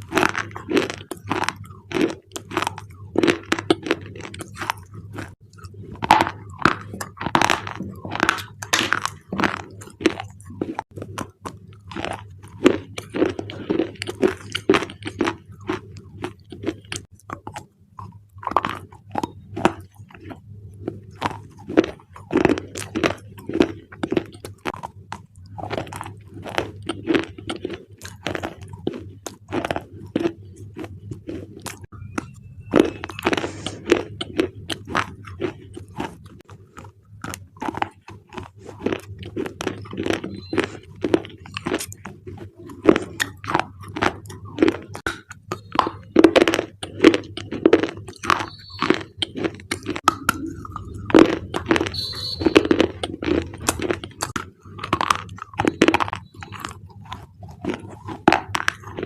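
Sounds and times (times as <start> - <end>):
crunching and chewing clay: 0.0 - 59.0.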